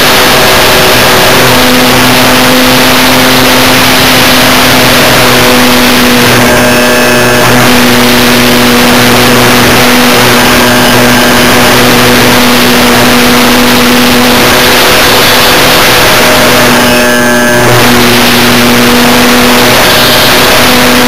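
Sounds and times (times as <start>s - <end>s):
model plane electric motor: 0.0s - 21.0s
rush of wind: 0.0s - 21.0s.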